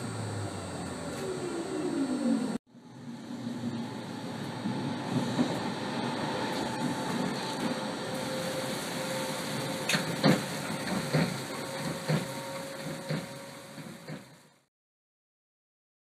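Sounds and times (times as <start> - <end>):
train rumble: 0.0 - 14.7.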